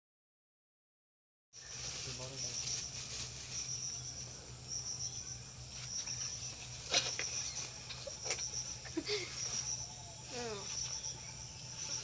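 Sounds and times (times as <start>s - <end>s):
insects chirring: 1.6s - 12.0s.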